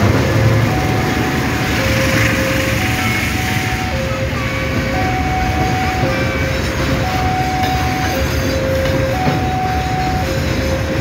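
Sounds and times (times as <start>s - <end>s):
train wagons rumbling past: 0.0s - 11.0s
two-tone level crossing alarm: 0.0s - 11.0s.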